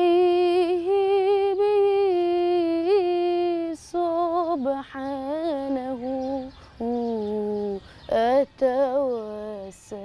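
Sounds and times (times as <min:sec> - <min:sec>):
boy singing religious chant: 0:00.0 - 0:10.0.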